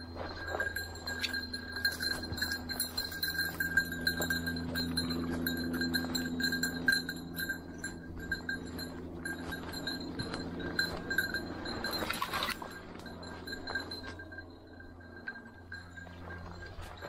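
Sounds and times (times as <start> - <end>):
dog collar bell jingling: 0.0 - 17.0.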